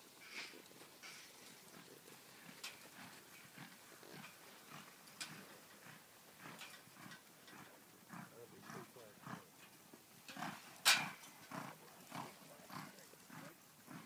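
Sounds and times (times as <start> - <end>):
horse loping on soft dirt: 0.0 - 14.0.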